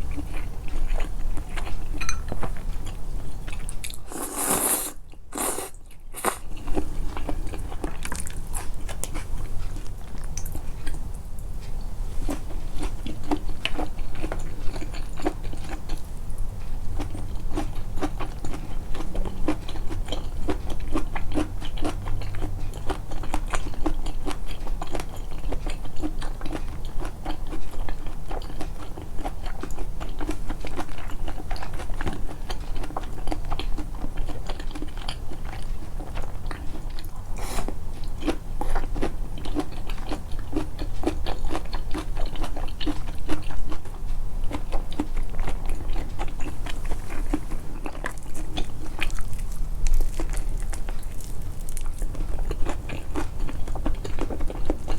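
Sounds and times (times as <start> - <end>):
person chewing and biting food: 0.0 - 11.0, 17.0 - 54.9.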